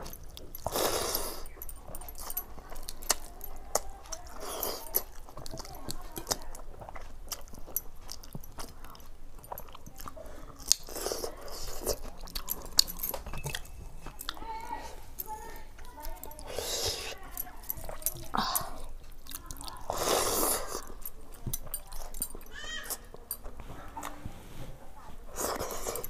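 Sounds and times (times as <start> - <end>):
person chewing and smacking: 0.0 - 24.2, 25.3 - 26.0.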